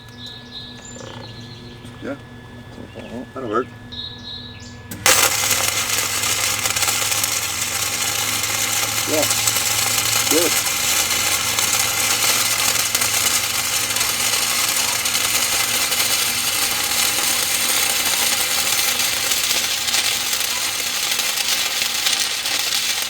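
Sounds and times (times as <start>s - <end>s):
welding arc crackling: 0.0s - 4.0s, 4.8s - 23.0s.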